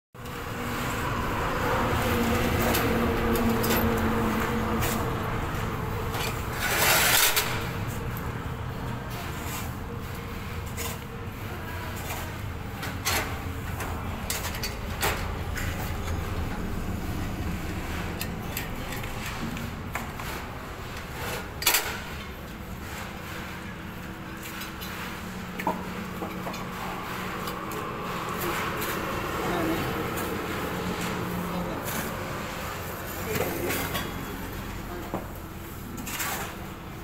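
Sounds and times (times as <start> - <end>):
metal scraping: 0.4 - 34.9.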